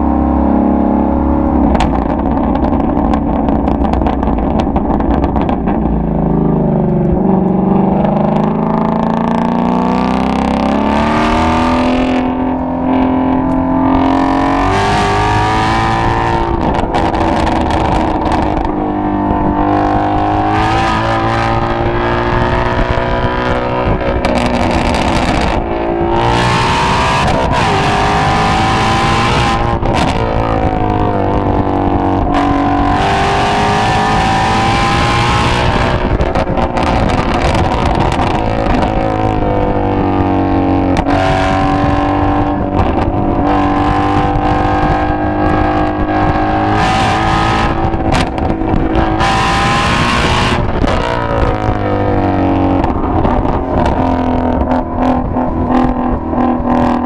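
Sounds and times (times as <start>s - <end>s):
car engine revving while driving: 0.0s - 57.0s.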